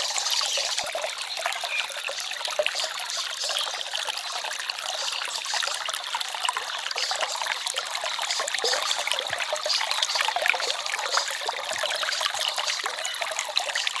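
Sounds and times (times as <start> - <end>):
stream trickling and babbling: 0.0 - 14.0.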